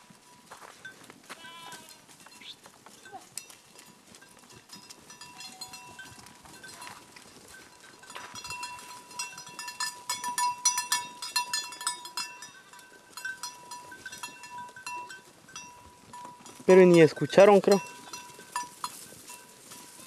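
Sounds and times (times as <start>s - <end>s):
goat bells clinking: 0.0s - 20.0s.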